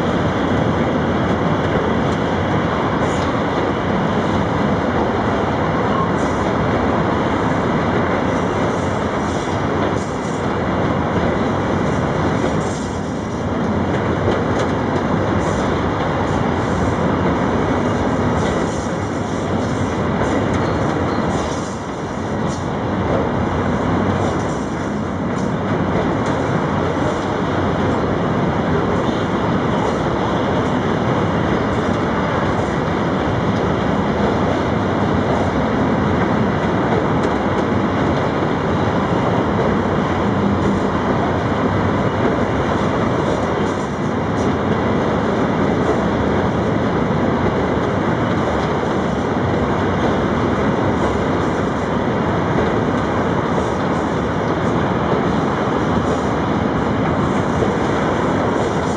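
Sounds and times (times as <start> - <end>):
freight train rumbling past: 0.0 - 58.9
train wheel clatter: 0.0 - 58.9.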